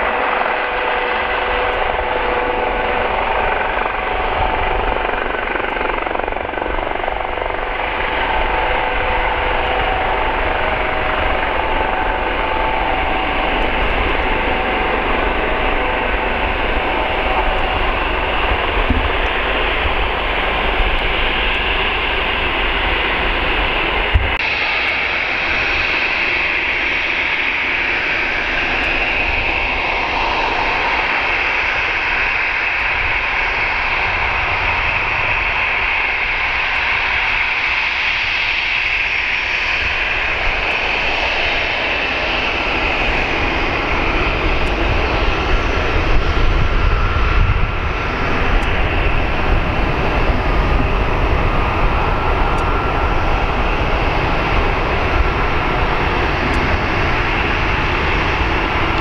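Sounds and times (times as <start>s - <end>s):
jet engines whining at taxi: 0.0s - 59.0s.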